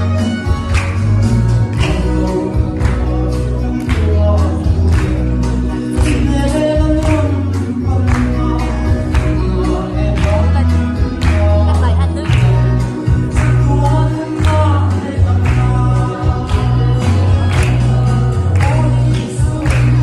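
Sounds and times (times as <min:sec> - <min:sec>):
music: 0:00.0 - 0:20.0
man singing gospel song: 0:01.6 - 0:20.0.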